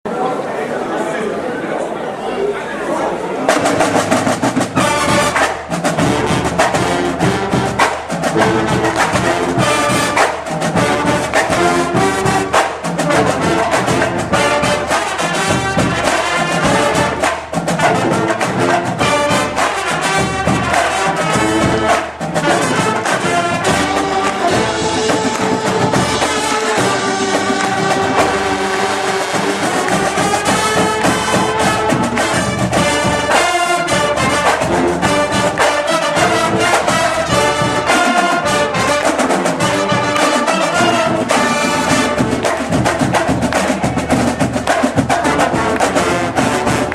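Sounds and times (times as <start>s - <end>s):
trumpets and trombones: 3.2s - 46.9s
marching drums beat: 3.5s - 46.9s.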